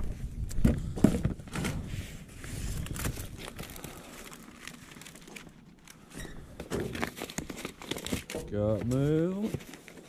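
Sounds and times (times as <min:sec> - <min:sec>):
papers rustling and crinkling: 0:00.0 - 0:10.0.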